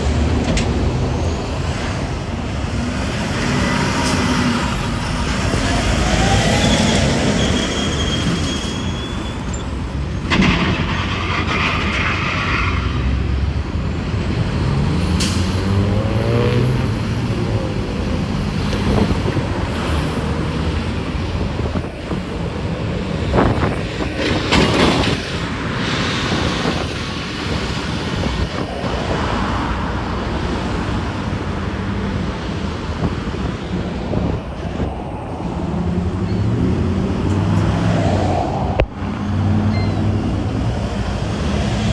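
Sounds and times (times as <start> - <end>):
expressway traffic with heavy trucks: 0.0 - 41.9.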